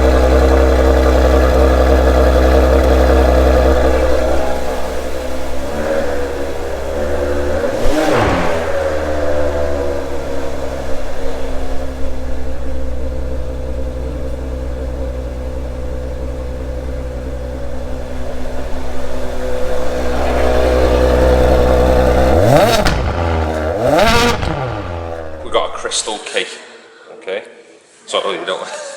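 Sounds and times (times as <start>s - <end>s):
car engine idling and revving: 0.0s - 26.2s.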